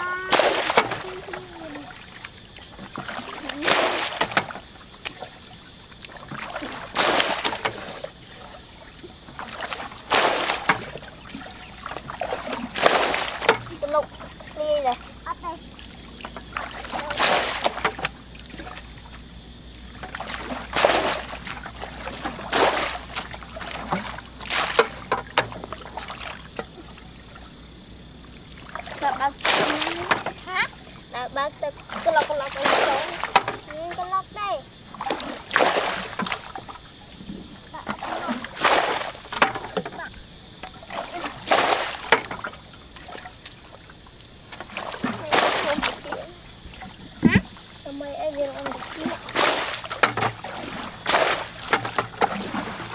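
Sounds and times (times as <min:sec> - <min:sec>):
insects buzzing: 0:00.0 - 0:52.9
muddy water splashing: 0:00.0 - 0:52.9.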